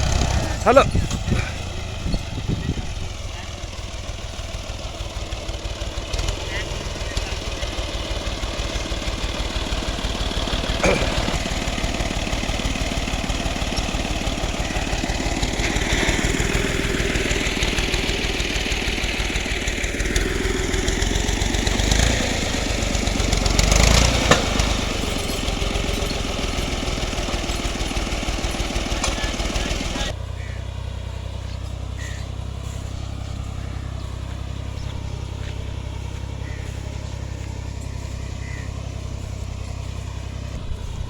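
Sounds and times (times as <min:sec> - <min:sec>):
tractor diesel engine chugging: 0:00.0 - 0:41.0.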